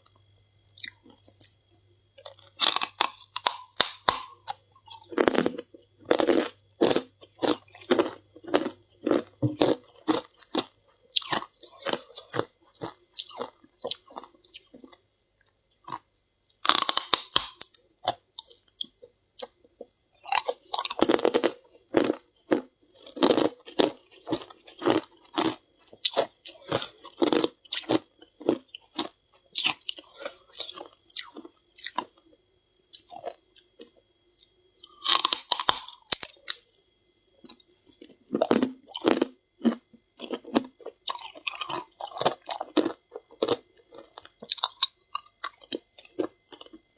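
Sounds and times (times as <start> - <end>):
crunching and chewing frost: 0.0 - 36.8, 37.4 - 46.9.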